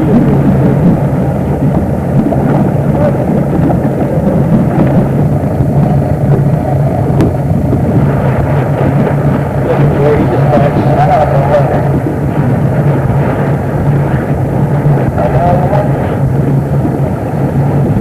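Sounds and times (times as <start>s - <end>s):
motorboat engine humming: 0.0s - 18.0s
wind and water rushing: 0.0s - 18.0s.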